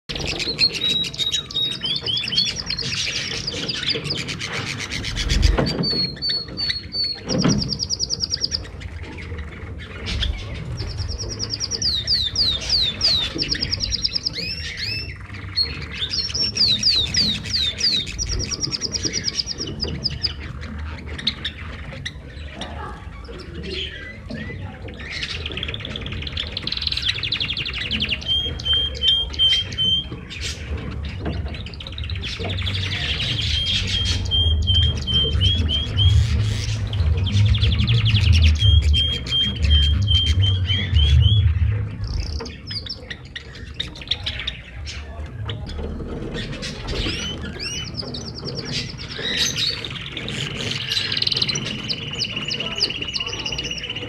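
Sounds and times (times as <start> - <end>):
canaries singing: 0.0 - 54.0.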